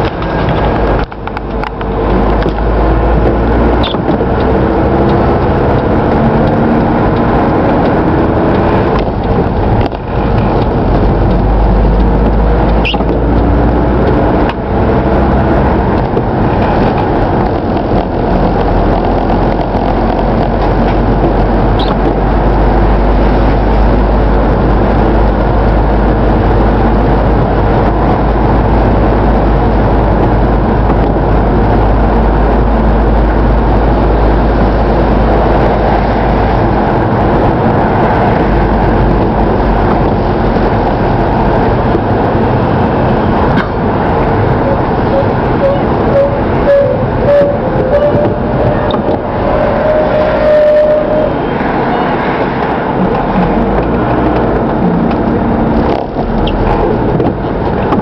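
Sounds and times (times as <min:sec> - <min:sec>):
car cabin road noise: 0:00.0 - 0:58.0
deep rumble: 0:00.0 - 0:58.0.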